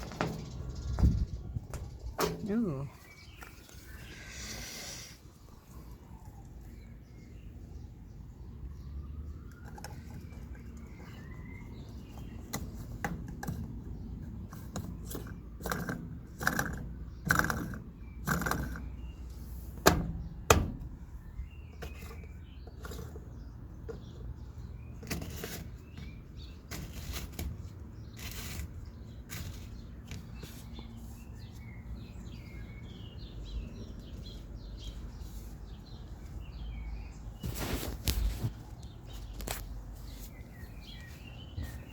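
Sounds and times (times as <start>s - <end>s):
birds chirping faintly: 0.0s - 41.9s.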